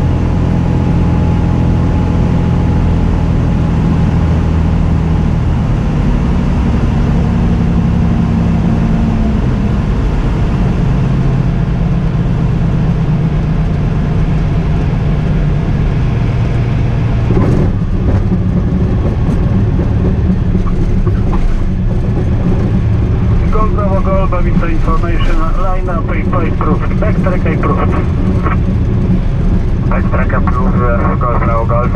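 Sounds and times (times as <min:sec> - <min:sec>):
propeller plane engine in cockpit: 0:00.0 - 0:31.9.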